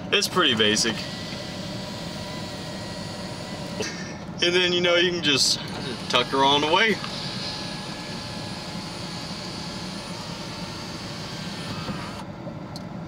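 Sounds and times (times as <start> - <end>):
sunroof electric motor whirring: 0.3 - 4.6, 5.2 - 12.4.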